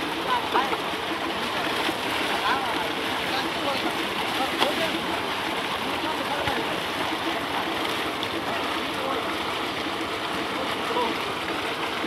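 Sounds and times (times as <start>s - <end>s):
water gushing into a tank: 0.0s - 12.0s.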